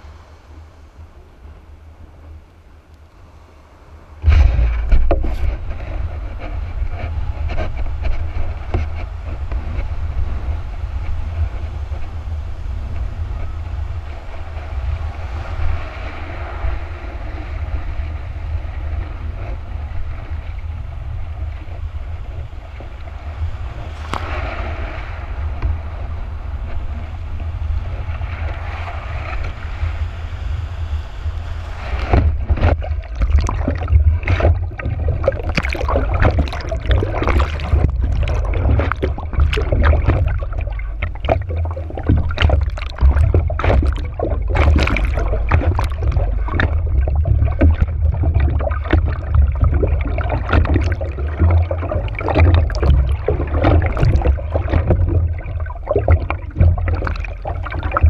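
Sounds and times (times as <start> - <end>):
water rushing past board: 3.8 - 58.0
wind buffeting microphone: 3.9 - 58.0
board splashing and slapping water: 4.2 - 29.8, 31.8 - 58.0.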